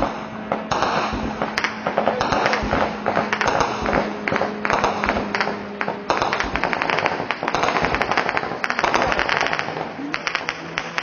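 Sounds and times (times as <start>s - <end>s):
distant automatic gunfire: 0.0s - 11.0s.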